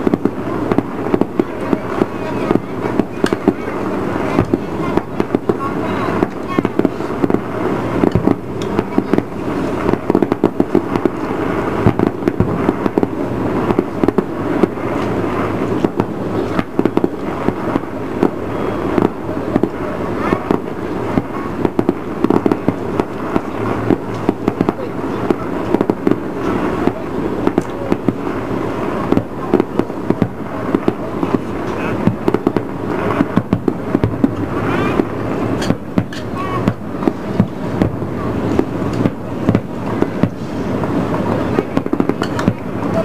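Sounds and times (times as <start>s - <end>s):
fireworks popping and banging: 0.0s - 43.0s.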